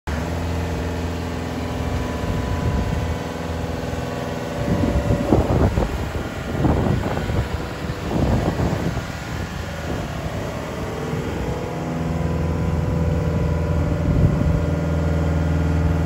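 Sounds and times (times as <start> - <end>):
diesel engine running: 0.1 - 16.0
gusty rumble: 0.6 - 16.0.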